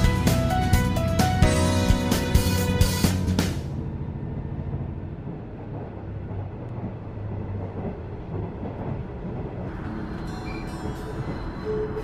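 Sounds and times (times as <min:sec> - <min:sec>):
diesel railcar rumble: 0:00.0 - 0:12.0.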